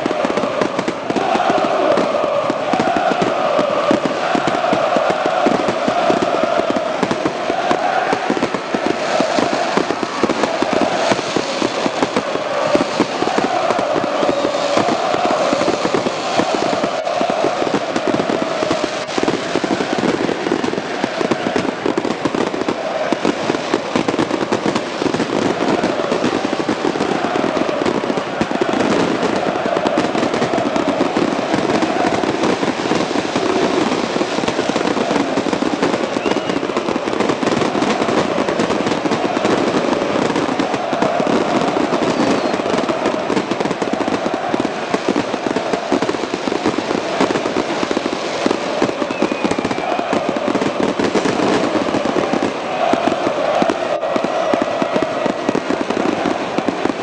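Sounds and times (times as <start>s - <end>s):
crowd chanting: 0.0s - 57.0s
dense crackle: 0.1s - 57.0s.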